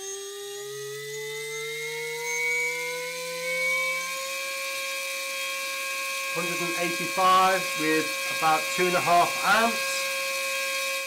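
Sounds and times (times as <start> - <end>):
brushless motor whine: 0.0 - 11.0.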